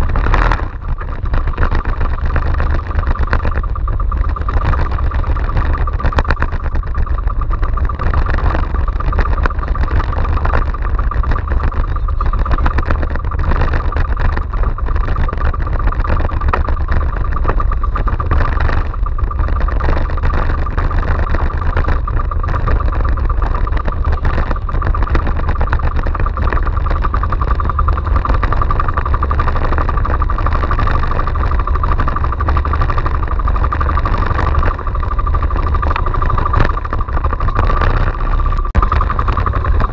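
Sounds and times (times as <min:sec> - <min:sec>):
boat engine running: 0:00.0 - 0:39.9
rough sea noise: 0:00.0 - 0:39.9
wind buffeting: 0:00.0 - 0:39.9.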